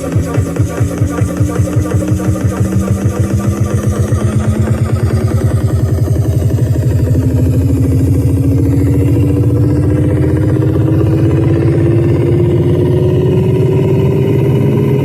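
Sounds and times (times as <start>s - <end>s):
heavy buzzing bass music: 0.0s - 15.0s
tone rising in pitch: 0.0s - 15.0s.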